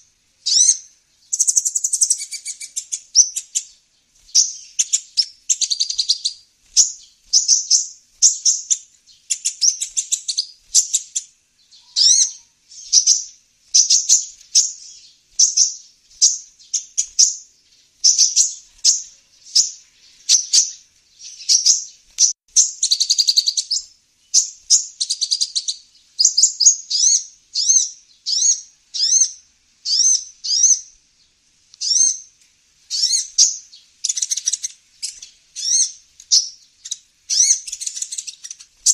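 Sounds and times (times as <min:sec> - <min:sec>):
bird twittering trills: 0:00.0 - 0:32.3, 0:32.9 - 0:38.9
bird high chirps: 0:00.0 - 0:38.9.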